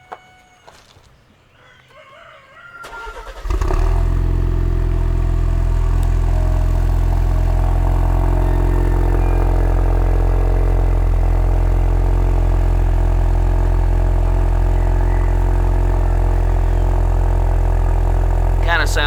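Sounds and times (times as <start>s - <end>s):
car engine idling: 3.1s - 19.0s.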